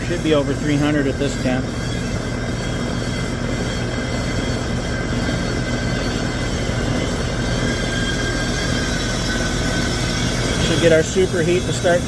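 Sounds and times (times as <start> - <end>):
heat pump unit humming: 0.0 - 12.0
thin high whine: 0.0 - 12.0.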